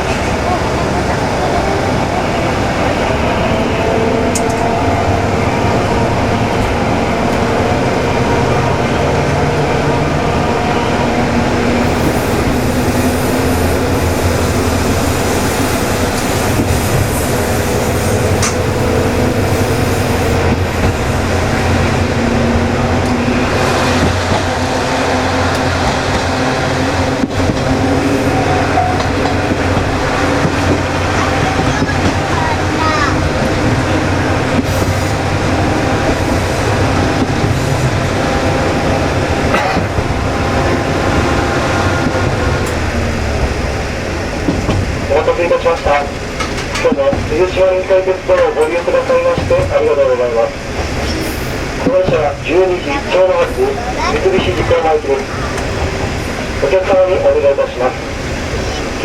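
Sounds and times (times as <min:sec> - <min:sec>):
diesel engine drone: 0:00.0 - 0:59.0
wheel and rail noise: 0:00.0 - 0:59.0.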